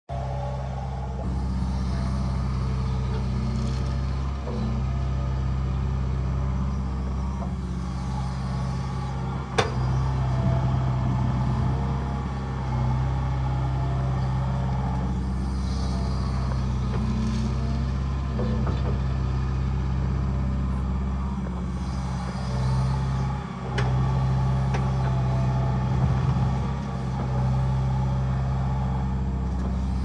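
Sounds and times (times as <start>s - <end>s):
excavator diesel engine under load: 0.1s - 30.0s.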